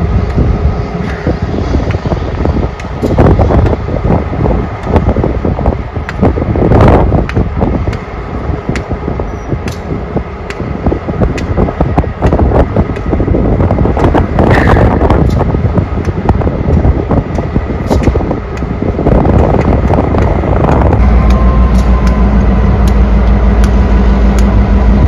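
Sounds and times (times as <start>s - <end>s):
diesel locomotive engine rumble: 0.0s - 25.0s
wind on microphone: 0.0s - 25.0s.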